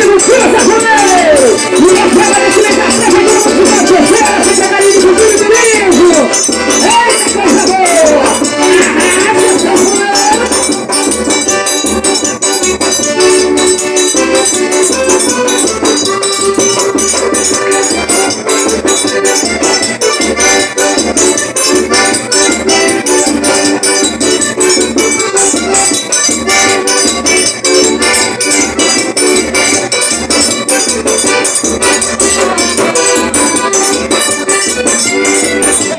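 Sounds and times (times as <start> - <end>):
accordion melody: 0.0 - 35.9.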